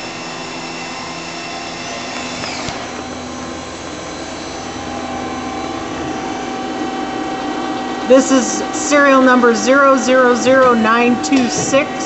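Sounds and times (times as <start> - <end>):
high whine falling in pitch: 0.0 - 12.0
lathe machine whir: 0.0 - 12.0.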